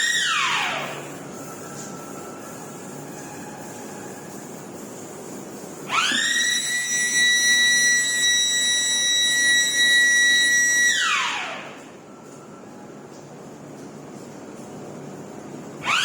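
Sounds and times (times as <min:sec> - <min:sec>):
high machine whine: 0:00.0 - 0:13.7.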